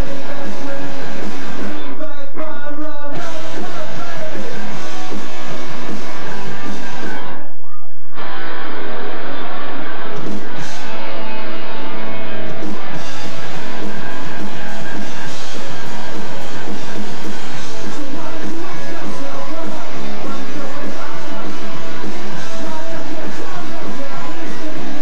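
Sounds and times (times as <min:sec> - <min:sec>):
punk rock band playing live: 0:00.0 - 0:02.0, 0:03.1 - 0:07.4, 0:08.2 - 0:25.0.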